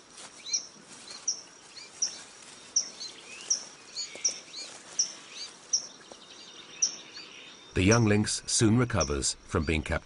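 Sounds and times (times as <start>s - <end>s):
bird chirping: 0.4s - 10.0s.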